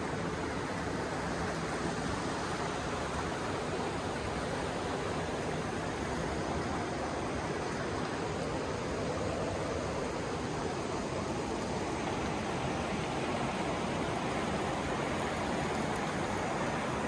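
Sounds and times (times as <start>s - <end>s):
mountain stream rushing over stones: 0.0s - 17.0s.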